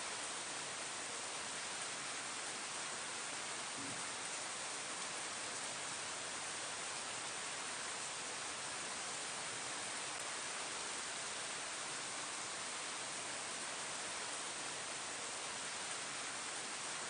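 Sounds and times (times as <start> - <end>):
rain falling on leaves: 0.0 - 17.0.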